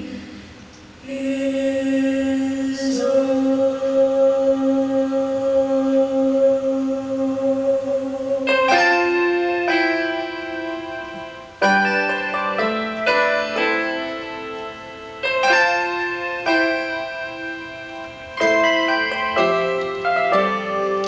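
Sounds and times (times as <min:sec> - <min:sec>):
slow piano chords: 0:03.7 - 0:21.0.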